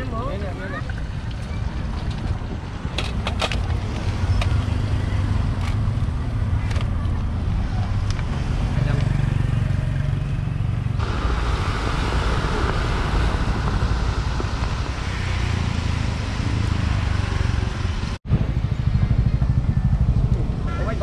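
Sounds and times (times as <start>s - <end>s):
motorbikes and cars passing: 0.0s - 21.0s.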